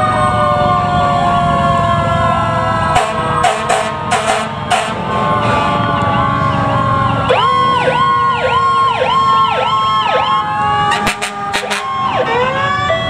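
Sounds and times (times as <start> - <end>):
electronic siren yelping: 0.0 - 13.0
wailing siren: 0.0 - 13.0.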